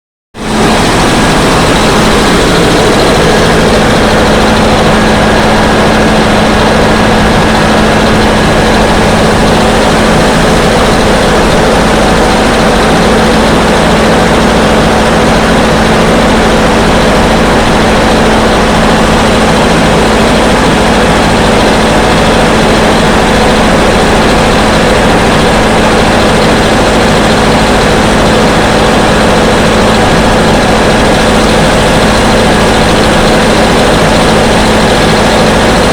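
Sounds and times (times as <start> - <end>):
drilling rig droning: 0.4 - 35.9.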